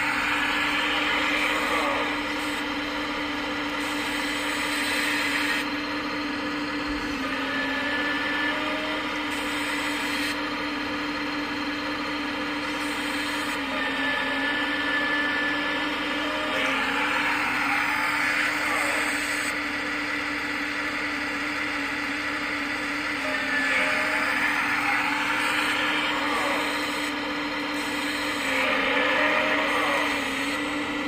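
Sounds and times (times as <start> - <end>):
hydraulic pump whining: 0.0 - 31.0.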